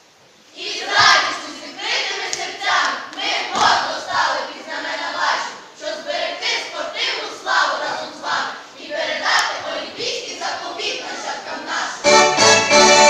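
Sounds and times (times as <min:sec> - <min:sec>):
children chanting in unison: 0:00.5 - 0:12.0.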